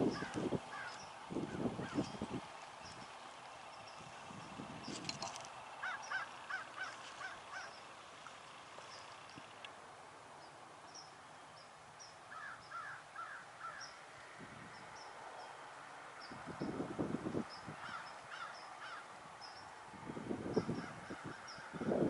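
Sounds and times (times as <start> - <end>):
faint repeated bird calls: 0.0 - 16.8, 17.5 - 19.8, 20.5 - 22.0.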